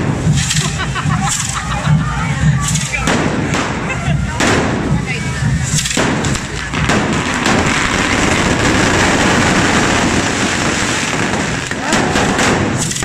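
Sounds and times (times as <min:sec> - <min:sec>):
fireworks hissing and crackling: 0:00.0 - 0:13.0.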